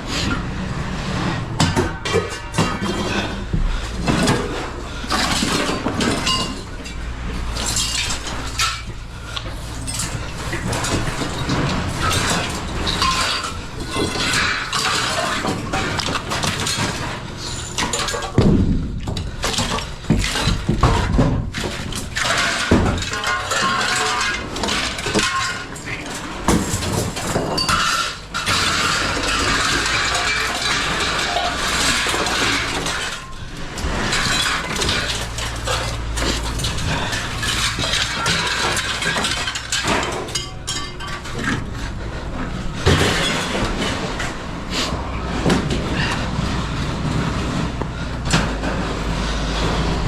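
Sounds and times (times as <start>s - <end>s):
scrap metal clanging and crashing: 0.0s - 50.0s.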